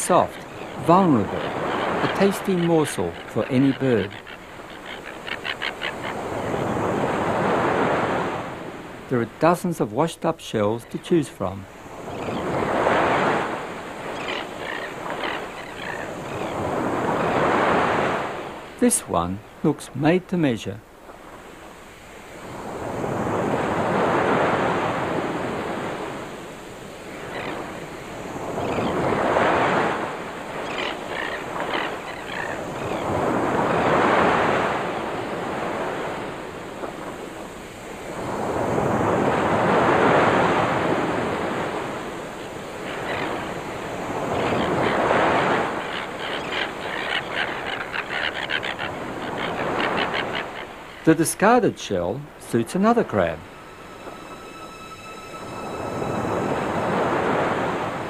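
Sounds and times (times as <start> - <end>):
waves breaking and washing ashore: 0.0 - 58.0.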